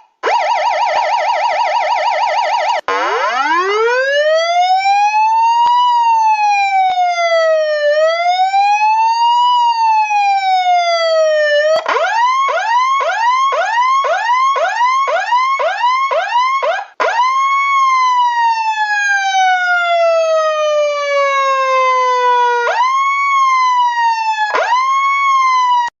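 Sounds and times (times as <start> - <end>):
emergency vehicle siren: 0.0 - 26.0.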